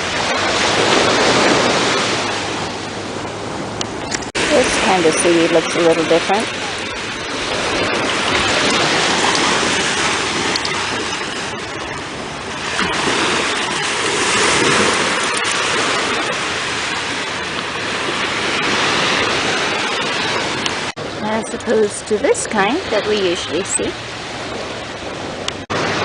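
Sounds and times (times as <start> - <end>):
ocean surf washing on beach: 0.0 - 26.0.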